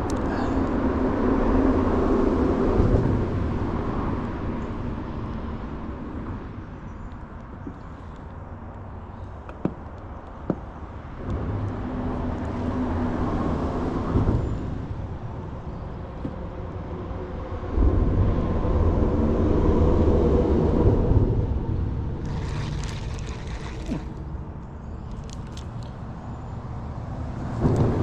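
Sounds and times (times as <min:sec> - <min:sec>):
motor vehicle rumble: 0:00.0 - 0:28.0.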